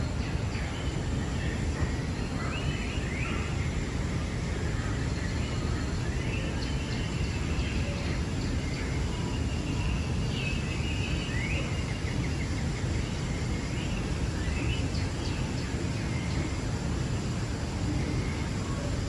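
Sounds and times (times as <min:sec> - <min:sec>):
birdsong over speakers: 0:00.0 - 0:19.0.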